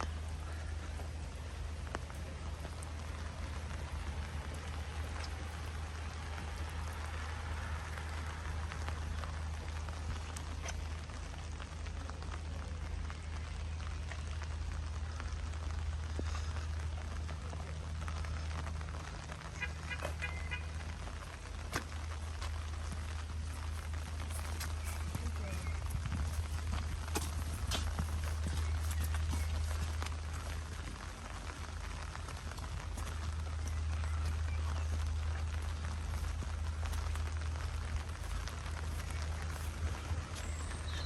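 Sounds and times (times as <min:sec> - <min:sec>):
rain hissing: 0:00.0 - 0:41.0
sharp raindrop ticks: 0:00.0 - 0:41.0.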